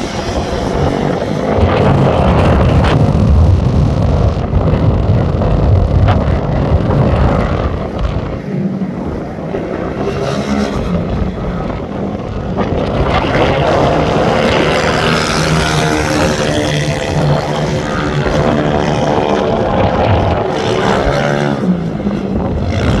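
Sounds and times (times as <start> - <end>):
mini moto engines racing: 0.0 - 23.0.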